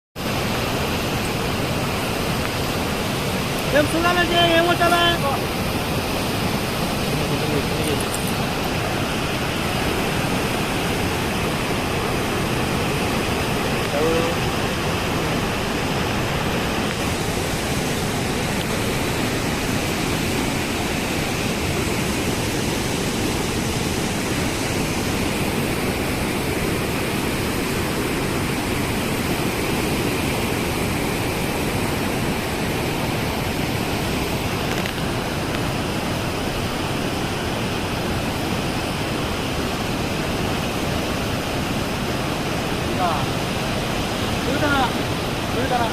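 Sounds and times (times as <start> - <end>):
floodwater rushing: 0.2 - 45.9.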